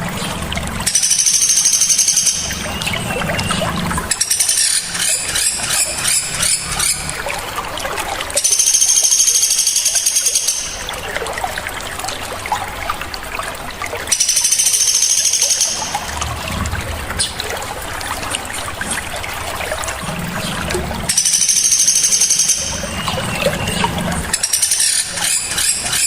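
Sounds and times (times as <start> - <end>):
songbirds trilling: 0.0 - 7.4, 8.4 - 11.3, 14.1 - 26.0
trickling water: 0.0 - 26.0.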